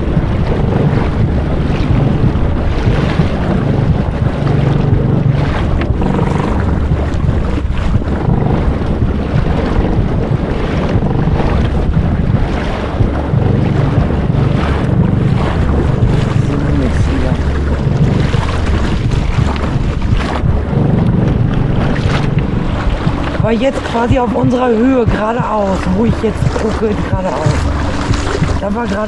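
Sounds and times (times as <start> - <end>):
boat motor running: 0.0 - 29.0
water splashing against hull: 0.0 - 29.0
wind buffeting microphone: 0.0 - 29.0.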